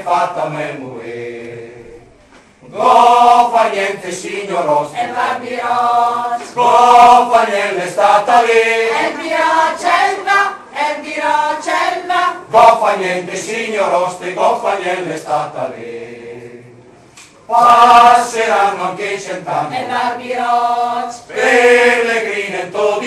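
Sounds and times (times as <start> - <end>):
mixed choir singing unaccompanied: 0.0 - 23.0.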